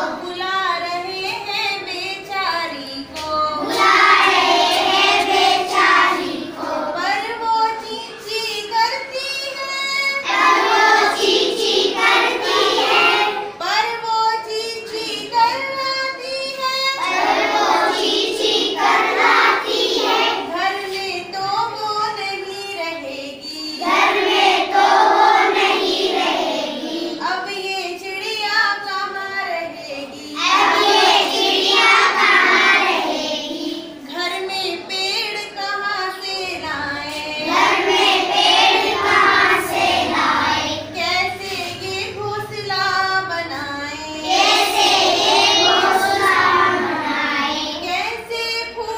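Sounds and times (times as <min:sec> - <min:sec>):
children singing in unison: 0:00.0 - 0:01.0, 0:02.8 - 0:13.6, 0:16.5 - 0:21.6, 0:23.0 - 0:27.5, 0:29.8 - 0:35.1, 0:36.0 - 0:48.9.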